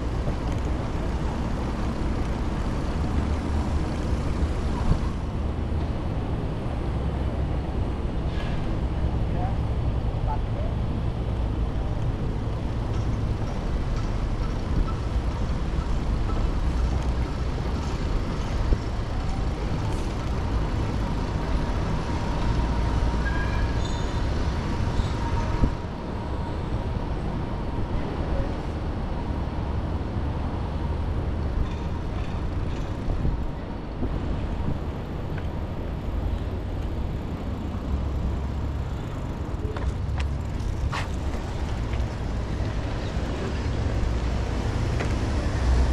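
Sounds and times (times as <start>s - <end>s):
road traffic hum: 0.0s - 45.9s.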